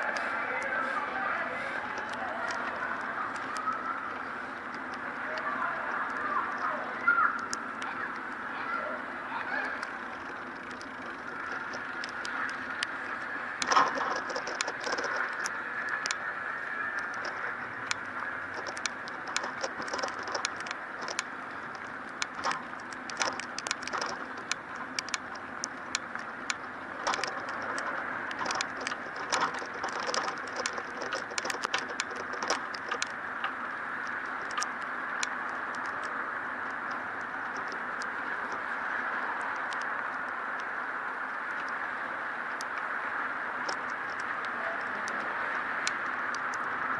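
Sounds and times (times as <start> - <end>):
rain street ambience: 0.0 - 46.9
rain ticking and tapping: 0.0 - 46.9.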